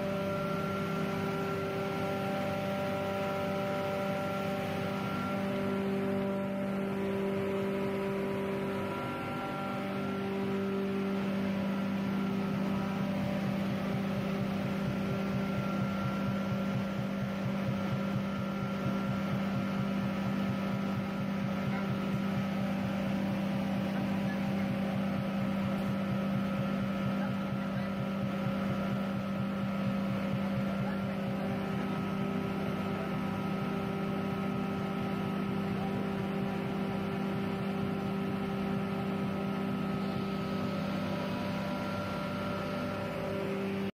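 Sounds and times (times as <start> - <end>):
grinder motor humming: 0.0 - 43.9.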